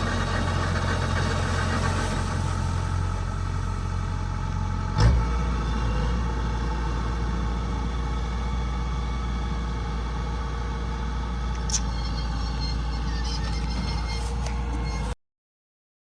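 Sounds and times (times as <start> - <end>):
harvester engine droning: 0.0 - 15.2.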